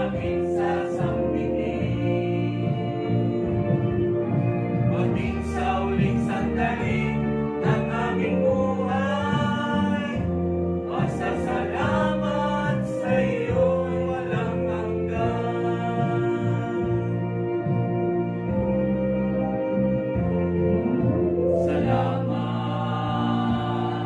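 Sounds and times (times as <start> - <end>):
group singing in harmony: 0.0 - 18.6, 20.2 - 24.0
held accompaniment notes: 0.0 - 24.0.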